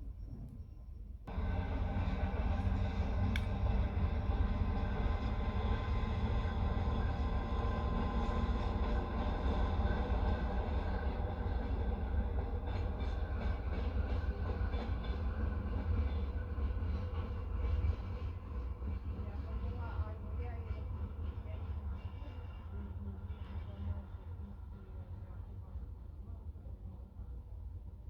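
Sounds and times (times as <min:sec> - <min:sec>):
train wheels rumbling on rails: 0:01.3 - 0:26.2.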